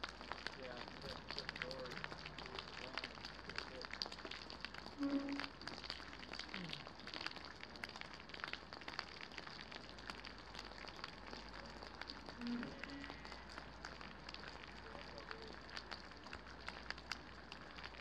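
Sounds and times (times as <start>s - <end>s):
rain falling: 0.0s - 18.0s
raindrops ticking: 0.0s - 18.0s.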